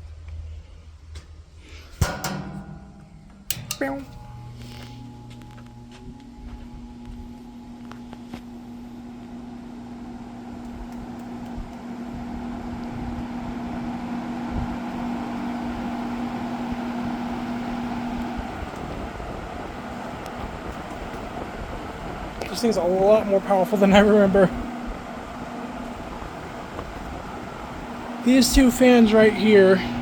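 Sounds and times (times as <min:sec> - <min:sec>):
motor hum: 0:00.0 - 0:30.0
fan air rushing: 0:00.1 - 0:30.0.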